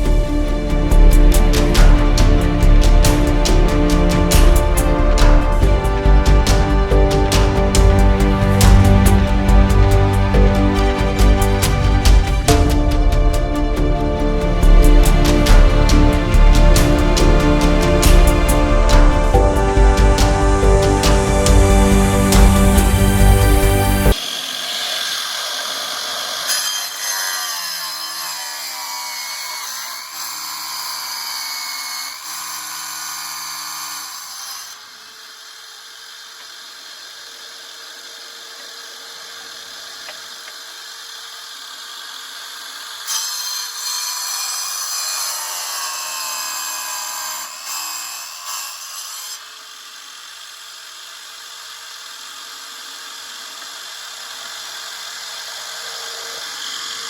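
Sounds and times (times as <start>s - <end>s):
electric power tool running: 0.0s - 57.0s.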